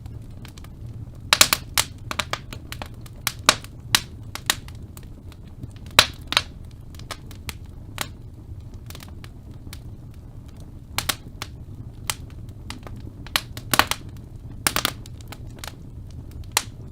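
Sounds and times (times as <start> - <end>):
low rumble of burning: 0.0 - 16.9
wood fire crackling and popping: 0.0 - 16.9.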